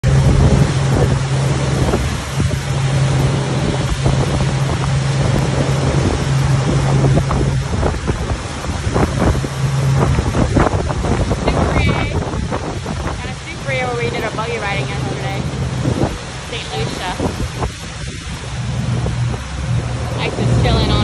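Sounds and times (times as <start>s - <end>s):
churning wake rushing: 0.0s - 21.0s
outboard motors humming: 0.0s - 21.0s
wind buffeting microphone: 0.0s - 21.0s.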